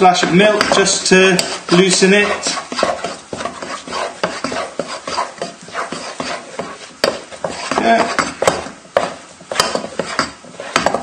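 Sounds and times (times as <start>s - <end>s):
spoon stirring mashed potato: 0.0s - 11.0s.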